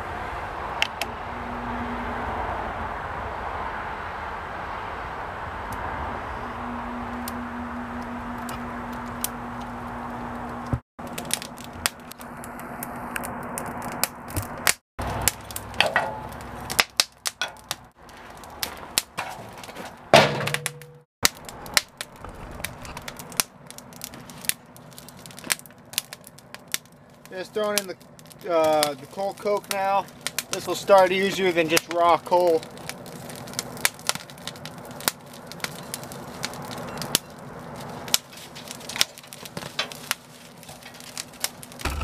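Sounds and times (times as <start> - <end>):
kindling crackling and snapping: 7.1 - 42.0.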